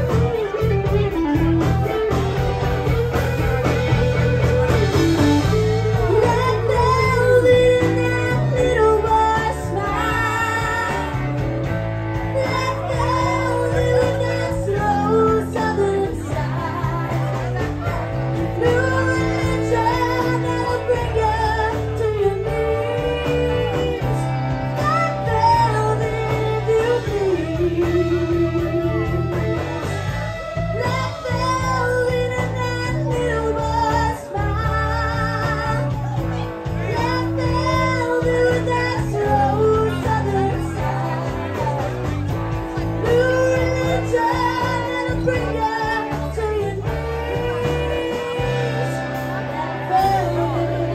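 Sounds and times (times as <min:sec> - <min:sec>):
country band playing: 0:00.0 - 0:50.9
person singing: 0:00.0 - 0:50.9.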